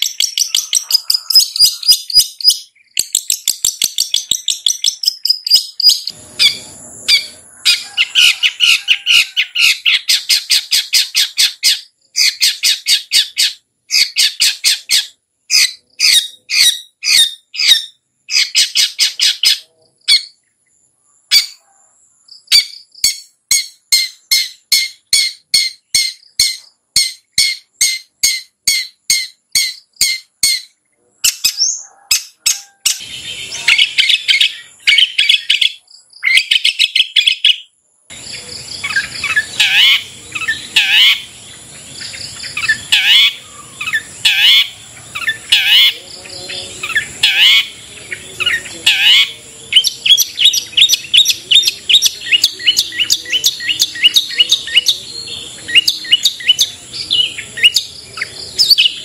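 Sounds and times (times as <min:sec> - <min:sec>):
bird chattering song: 0:00.0 - 0:21.6, 0:22.2 - 0:59.0
bird harsh repeated calls: 0:00.0 - 0:59.0.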